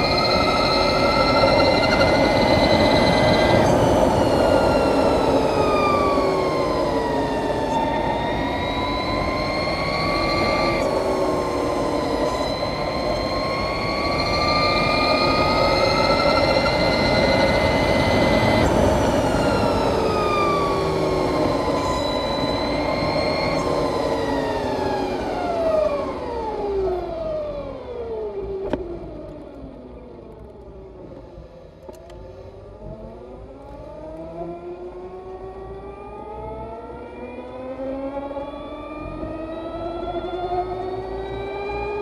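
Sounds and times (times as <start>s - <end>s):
electric motorcycle whining: 0.0s - 30.8s, 31.6s - 42.0s.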